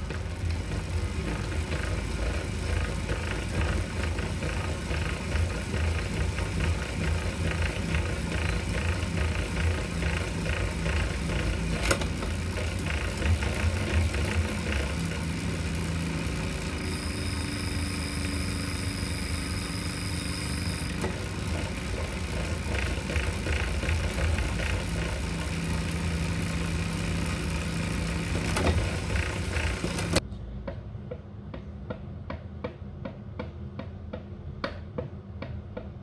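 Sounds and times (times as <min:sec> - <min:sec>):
bike trainer low rumble: 0:00.0 - 0:30.2.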